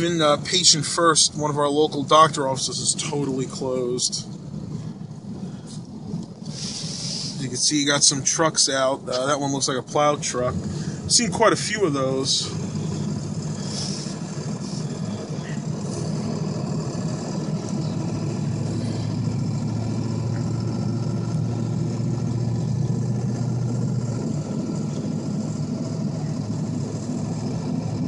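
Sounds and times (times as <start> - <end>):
engine and road noise in cab: 0.0 - 28.0
low hum: 0.0 - 28.0.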